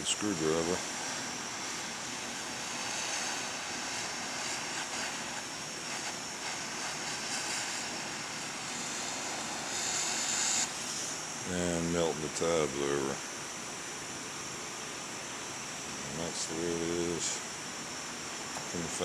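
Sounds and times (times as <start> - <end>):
propane torch hissing: 0.0 - 13.3, 15.7 - 19.0.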